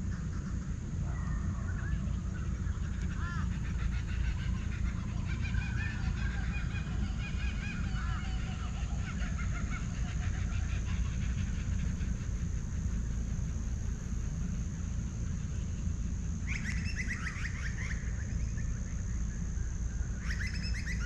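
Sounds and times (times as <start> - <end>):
birds chirping and chattering: 0.0 - 21.0.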